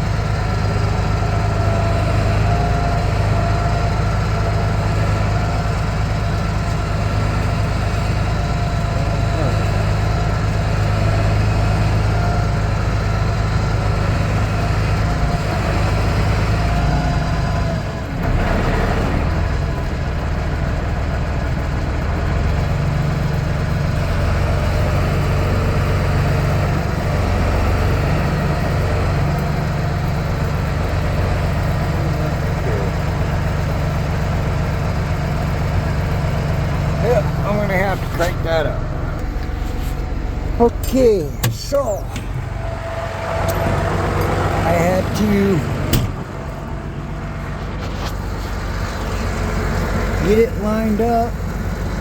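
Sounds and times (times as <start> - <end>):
vehicle engine idling: 0.0 - 52.0.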